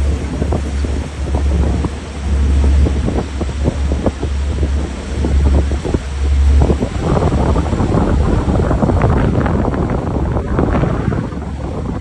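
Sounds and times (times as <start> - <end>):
boat wake rushing on water: 0.0 - 12.0
wind buffeting microphone: 0.0 - 12.0.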